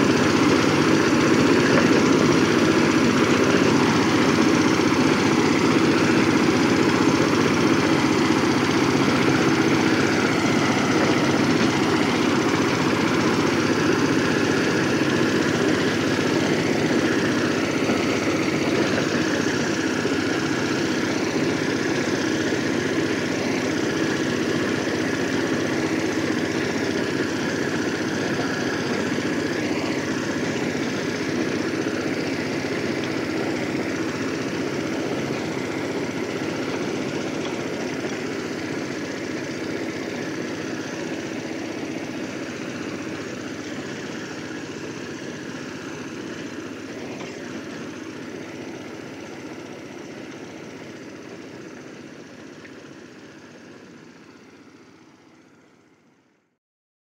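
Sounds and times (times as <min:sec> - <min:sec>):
diesel engine running: 0:00.0 - 0:56.3.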